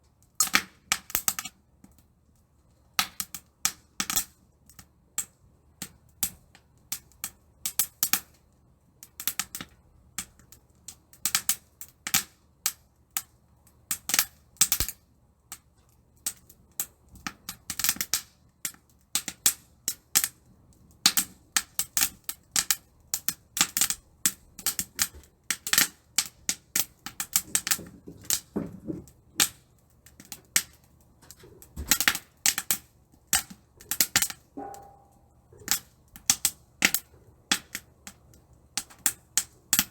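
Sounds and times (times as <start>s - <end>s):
wood fire crackling and popping: 0.2s - 8.4s, 9.0s - 39.9s.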